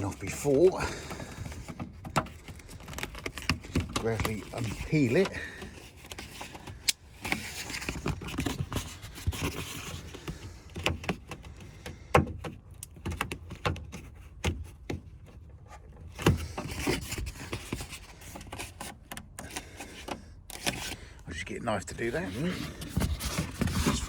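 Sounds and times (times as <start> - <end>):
handling clicks and knocks: 0.0 - 21.0.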